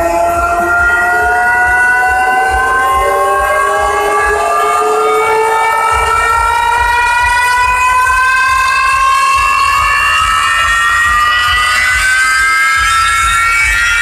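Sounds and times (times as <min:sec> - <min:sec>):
rapid bass pulse: 0:00.0 - 0:14.0
siren-like wail over sound system: 0:00.0 - 0:14.0.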